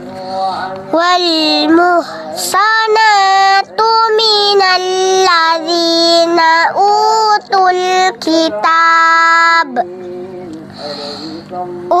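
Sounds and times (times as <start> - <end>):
child chanting melodically: 0.3 - 10.2, 10.9 - 12.0.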